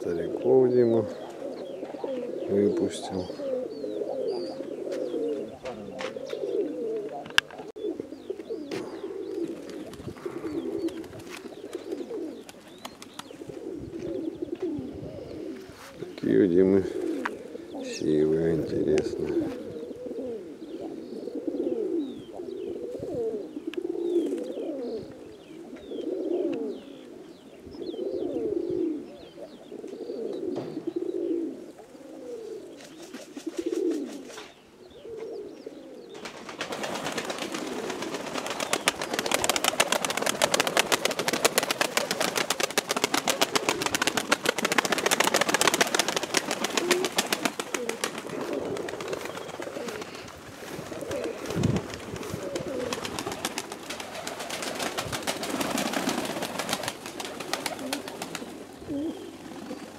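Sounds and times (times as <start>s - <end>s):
pigeons cooing: 0.0s - 59.9s.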